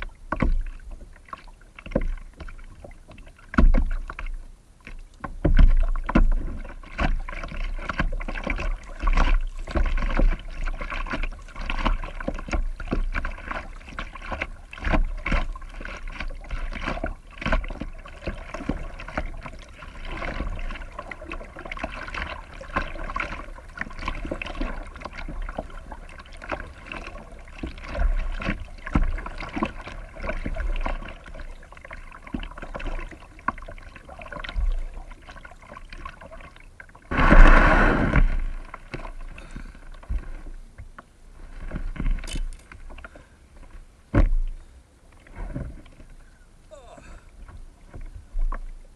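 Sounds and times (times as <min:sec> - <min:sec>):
paddle splashing water: 0:00.0 - 0:48.9
water trickling off paddle: 0:00.0 - 0:48.9.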